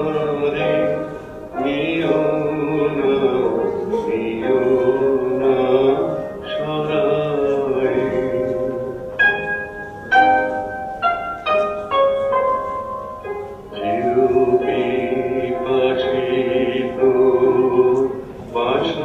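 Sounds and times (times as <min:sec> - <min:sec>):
long held notes: 0:00.0 - 0:19.0
plucked notes music: 0:00.0 - 0:19.0.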